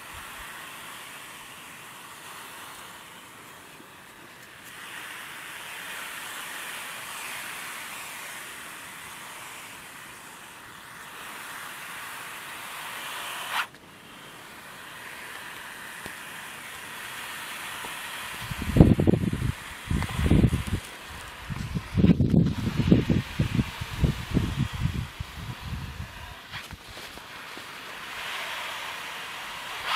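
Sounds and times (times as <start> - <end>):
snake hissing: 0.0 - 29.9.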